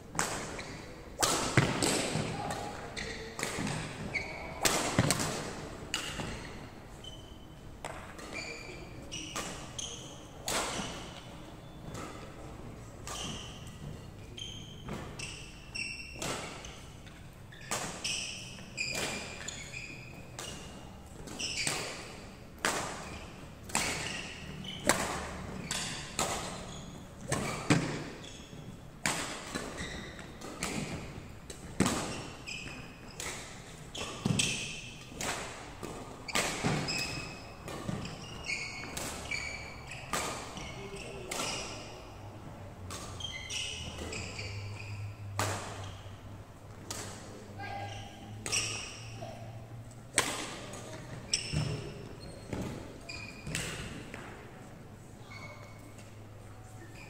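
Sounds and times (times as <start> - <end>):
rackets hitting shuttlecock: 0.1 - 7.1, 7.8 - 42.1, 42.8 - 54.7
shoes squeaking on wooden floor: 2.3 - 5.1, 6.0 - 12.2, 12.8 - 22.3, 23.0 - 31.2, 31.8 - 34.9, 35.8 - 46.4, 50.8 - 57.0.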